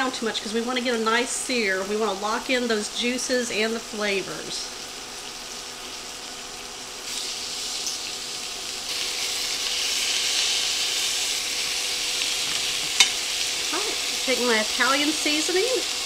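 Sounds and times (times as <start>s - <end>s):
chicken sizzling in butter: 0.0s - 16.0s.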